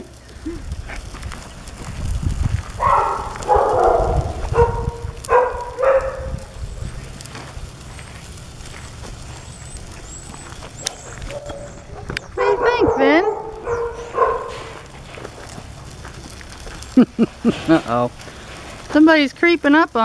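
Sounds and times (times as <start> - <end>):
stroller wheels rumbling on pavement: 0.0 - 20.0.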